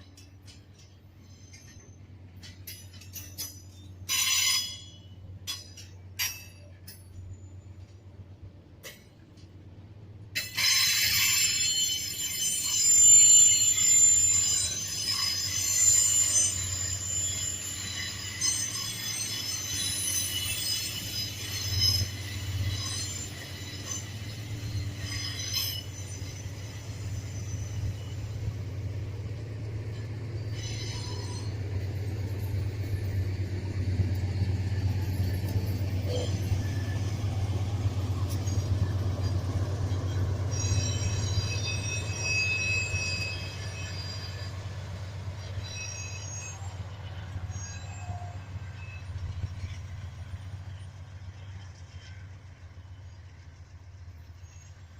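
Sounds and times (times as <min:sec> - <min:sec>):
train wheels squealing: 0:00.0 - 0:09.5, 0:10.2 - 0:54.9
train rumbling past: 0:00.0 - 0:54.9.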